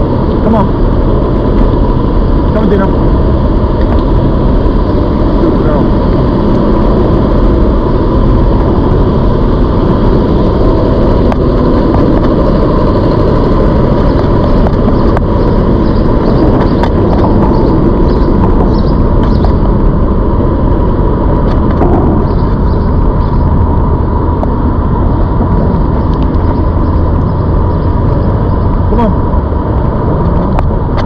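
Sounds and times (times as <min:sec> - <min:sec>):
electric bike whine: 0:00.0 - 0:31.0
wind buffeting microphone: 0:00.0 - 0:31.0.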